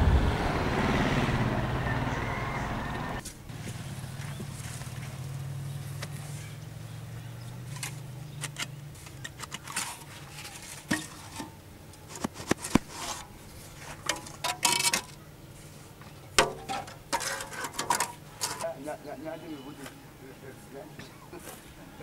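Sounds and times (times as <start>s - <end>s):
distant calls: 1.4s - 12.0s, 14.3s - 22.0s.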